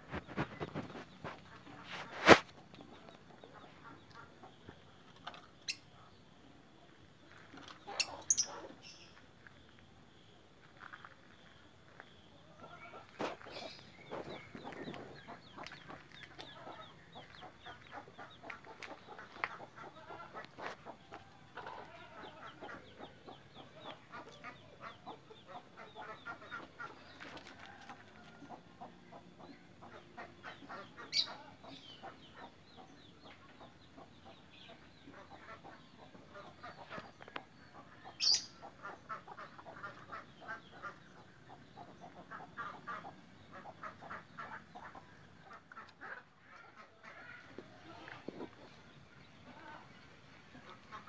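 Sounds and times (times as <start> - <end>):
birds clucking: 0.0 - 51.0.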